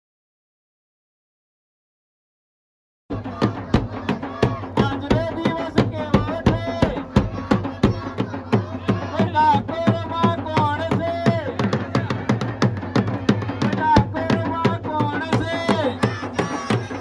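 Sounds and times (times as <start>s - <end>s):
fast drum beat: 3.1s - 17.0s.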